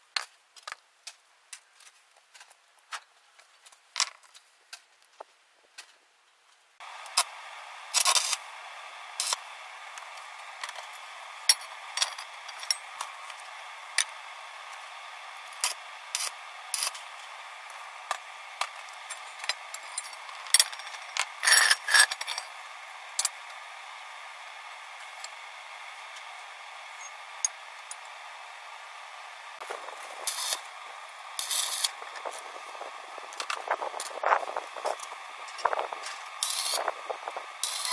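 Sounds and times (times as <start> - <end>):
steady hiss: 6.8 - 37.9.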